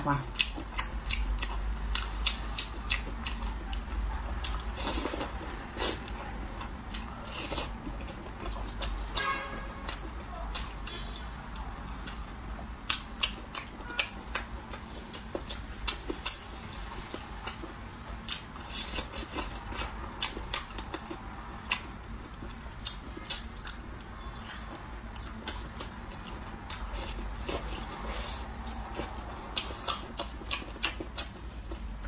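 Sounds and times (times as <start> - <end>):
wet chewing and lip smacks: 0.3 - 9.2, 9.8 - 32.0.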